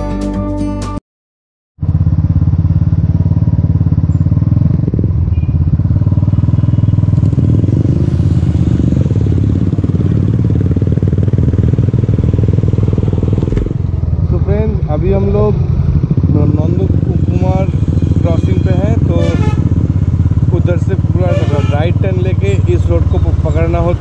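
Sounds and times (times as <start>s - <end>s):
motorcycle engine running: 1.8s - 24.0s
road noise: 1.8s - 24.0s.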